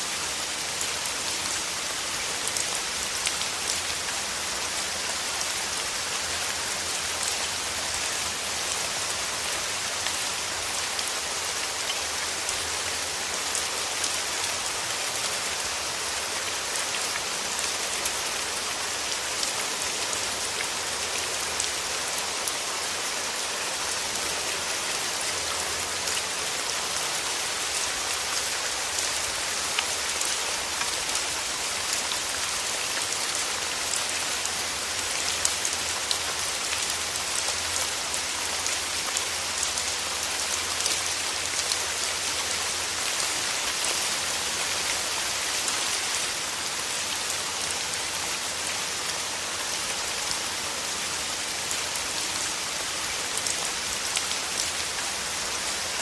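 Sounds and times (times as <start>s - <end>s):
rain pattering on plants: 0.0s - 56.0s.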